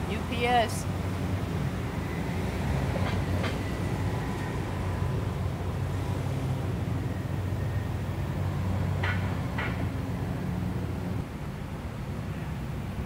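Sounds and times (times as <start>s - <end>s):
street traffic rumble: 0.0s - 13.0s
vehicles passing: 0.0s - 13.0s.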